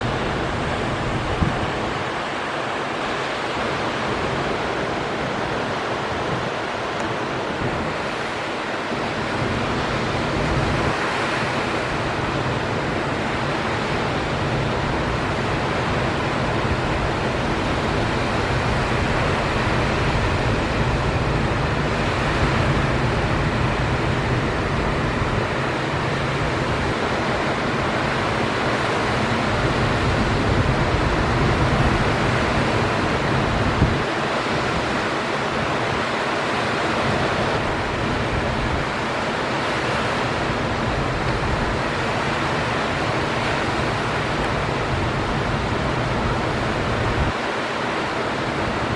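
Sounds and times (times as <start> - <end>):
ocean surf breaking: 0.0 - 48.9
wind on microphone: 0.0 - 48.9.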